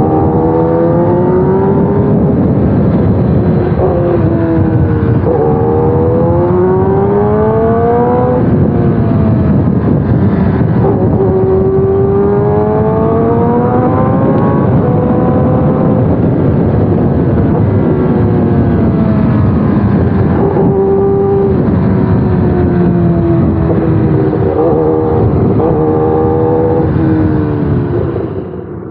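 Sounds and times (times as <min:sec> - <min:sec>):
motorcycle engine shifting gears: 0:00.0 - 0:28.6
wind and road noise: 0:00.0 - 0:28.9.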